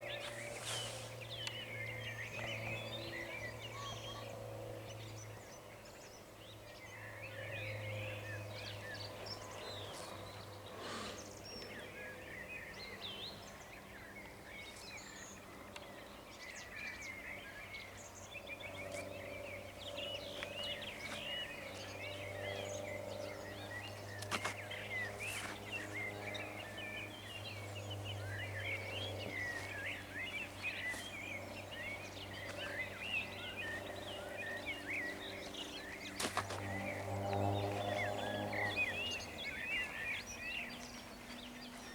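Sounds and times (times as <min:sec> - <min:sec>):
songbirds singing: 0:00.0 - 0:41.9
steady low hum: 0:07.8 - 0:41.9.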